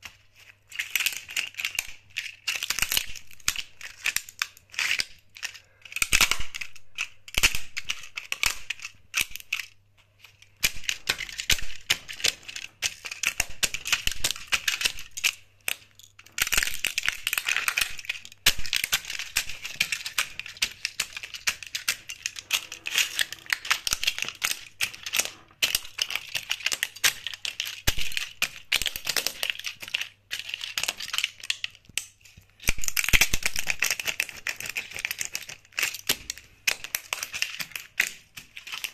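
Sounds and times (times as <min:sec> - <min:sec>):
plastic models cracking underfoot: 0:00.0 - 0:38.9.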